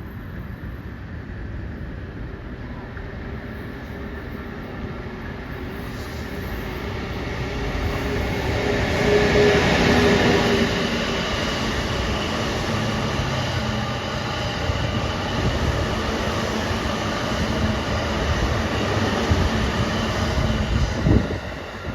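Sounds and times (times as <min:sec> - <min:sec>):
train wheels rolling on rails: 0:03.0 - 0:21.9.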